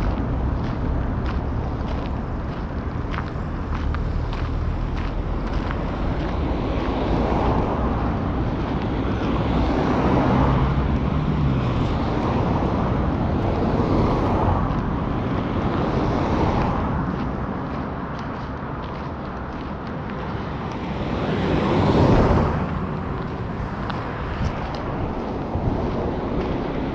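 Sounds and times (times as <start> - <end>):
low engine hum: 0.0 - 26.9
vehicles passing on road: 0.0 - 26.9.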